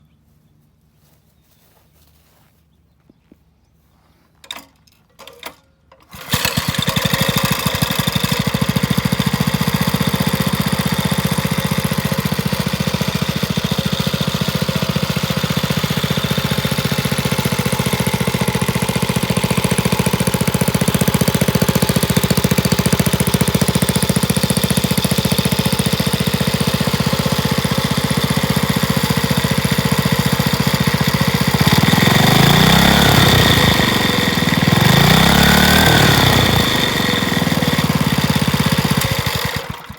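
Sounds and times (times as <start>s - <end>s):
small engine starting and running: 4.4s - 39.9s.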